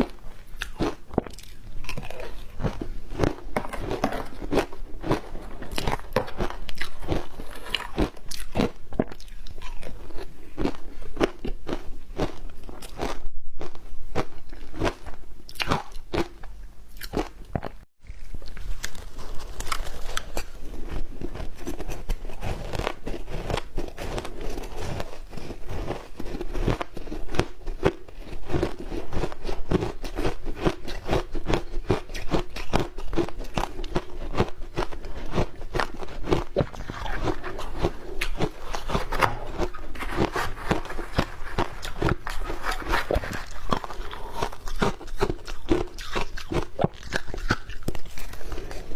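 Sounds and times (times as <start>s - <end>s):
ice crunching while chewed: 0.0s - 16.4s, 17.0s - 48.9s.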